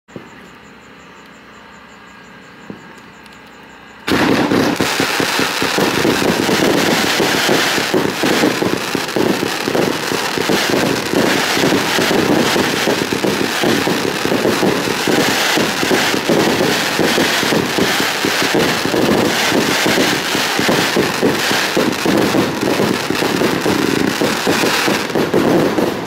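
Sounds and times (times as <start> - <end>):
fireworks popping and banging: 2.7 - 26.0.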